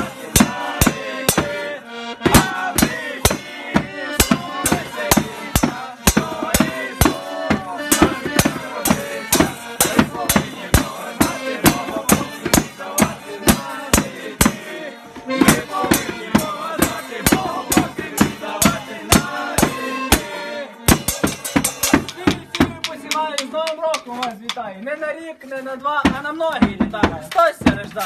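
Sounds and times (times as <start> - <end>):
drum beating steady rhythm: 0.0 - 24.8, 26.0 - 28.0
folk song singing: 0.0 - 28.0.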